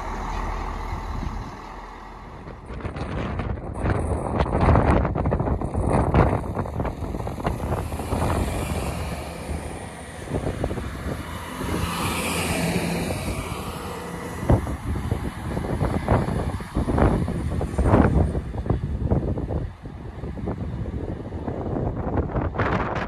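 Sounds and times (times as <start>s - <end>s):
diesel railcar engine: 0.0s - 23.0s.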